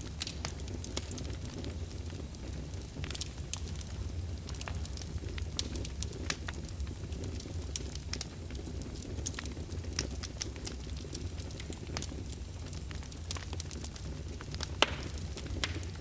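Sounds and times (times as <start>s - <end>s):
fireplace fire crackling: 0.0s - 16.0s
low rumble of flame: 0.0s - 16.0s.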